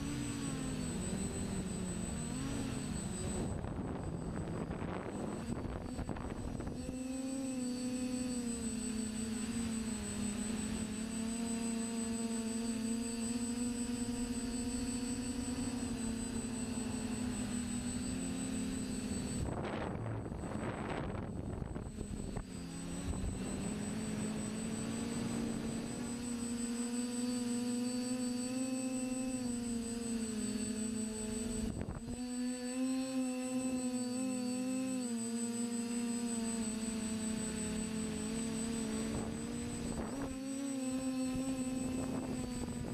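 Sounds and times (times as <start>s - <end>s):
drone propellers whining: 0.0s - 42.9s.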